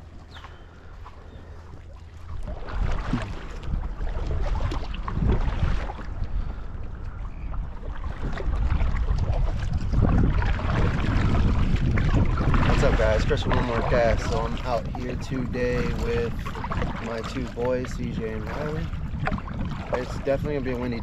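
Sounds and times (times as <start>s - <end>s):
water splashing around kayak: 0.0s - 21.0s
wind buffeting microphone: 0.0s - 21.0s.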